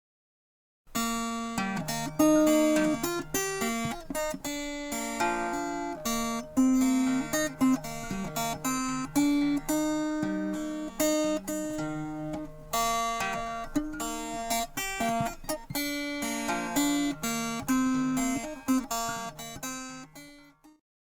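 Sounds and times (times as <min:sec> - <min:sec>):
acoustic guitar plucked notes: 0:00.9 - 0:20.8.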